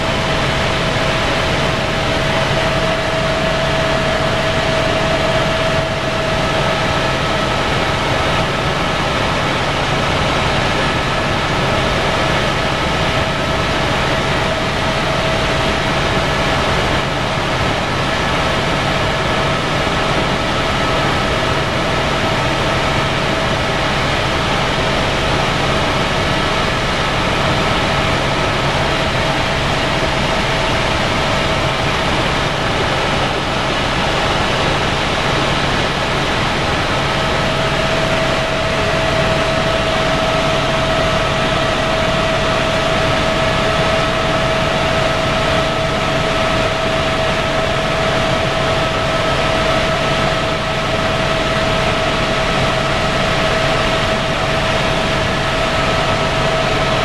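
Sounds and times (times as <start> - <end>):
constant high whine: 0.0 - 57.0
helicopter rotor and engine noise: 0.0 - 57.0.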